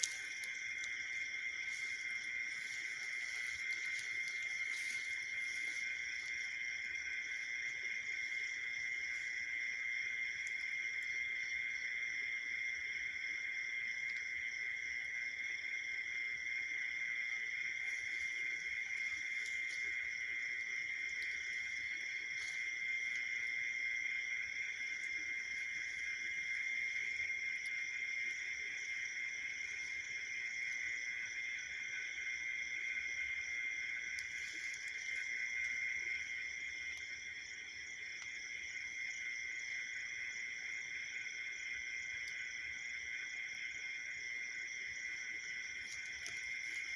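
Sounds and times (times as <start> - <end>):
night insects chorus: 0.0 - 46.9.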